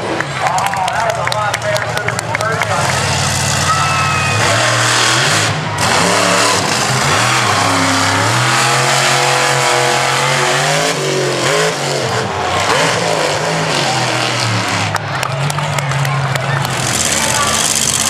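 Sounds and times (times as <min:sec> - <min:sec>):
truck engine revving hard: 0:01.9 - 0:18.0.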